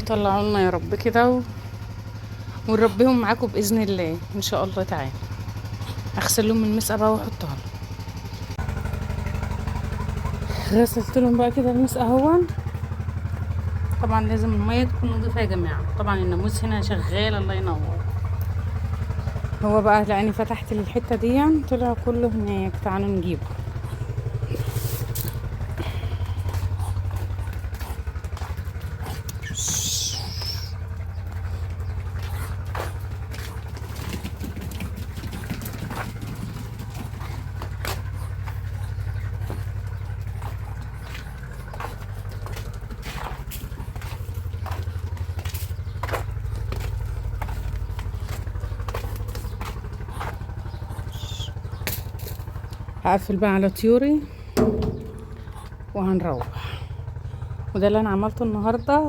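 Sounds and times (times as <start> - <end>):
small engine idling: 0.0 - 59.0.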